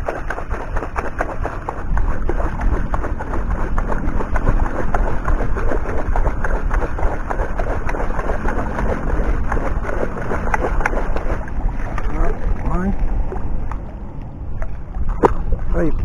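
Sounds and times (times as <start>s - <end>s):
steady low rumble: 0.0s - 16.0s
water splashing and sloshing: 0.0s - 16.0s.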